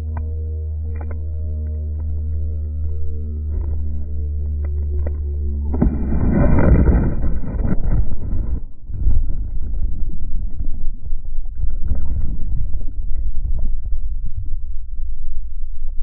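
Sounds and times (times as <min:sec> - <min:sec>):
underwater water gurgling: 0:00.0 - 0:16.0.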